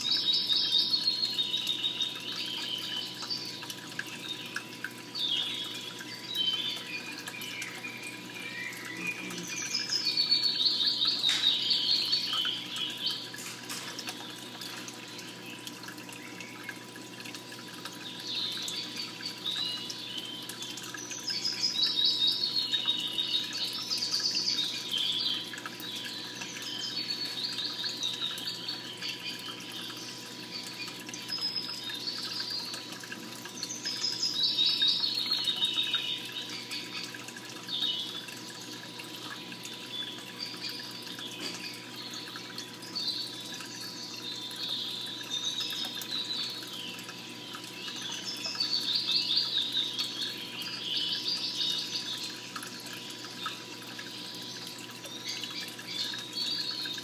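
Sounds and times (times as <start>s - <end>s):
birds chirping and calling: 0.0s - 57.0s
faint steady hum: 0.0s - 57.0s
trickling water-like background: 0.0s - 57.0s.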